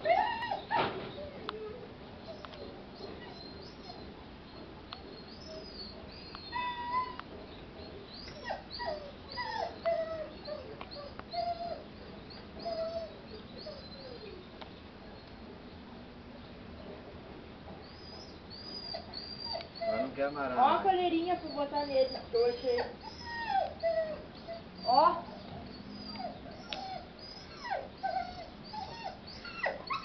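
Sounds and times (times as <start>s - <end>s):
puppies whimpering and yipping: 0.0s - 4.1s, 5.0s - 14.4s, 17.8s - 30.0s.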